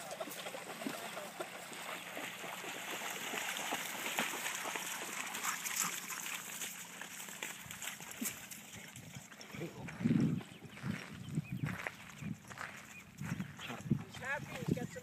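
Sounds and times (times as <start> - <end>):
dogs splashing through water: 0.0 - 15.0.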